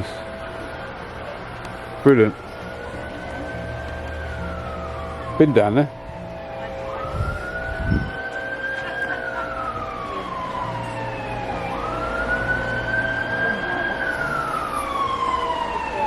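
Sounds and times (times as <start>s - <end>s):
emergency vehicle siren wailing: 0.0s - 16.0s.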